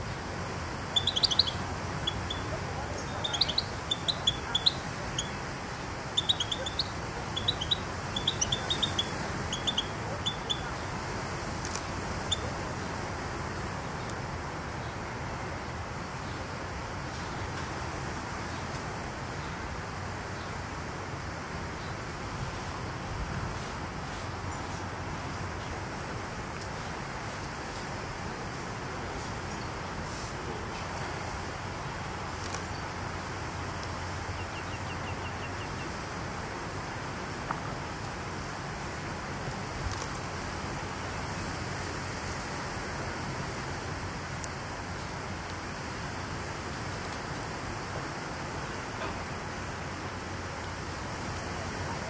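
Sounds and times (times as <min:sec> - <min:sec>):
ambient rumble and hiss: 0:00.0 - 0:52.0.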